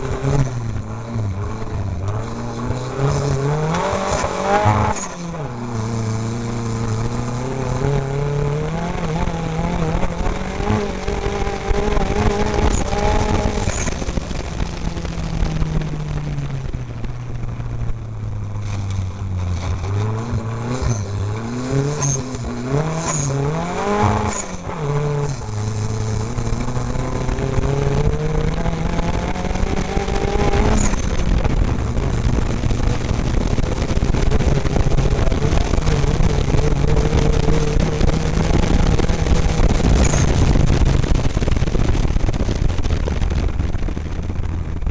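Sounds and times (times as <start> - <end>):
engine revving: 0.0 - 44.9
vehicle rumbling on rough ground: 0.0 - 44.9.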